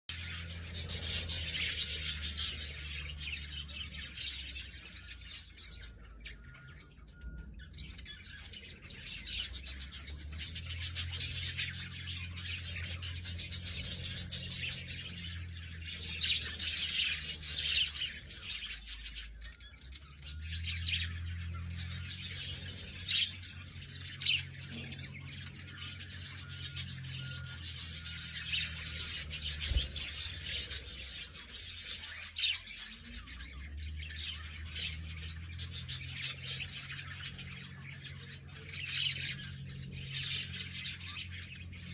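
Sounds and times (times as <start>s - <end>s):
lovebirds chirping: 0.1s - 41.9s.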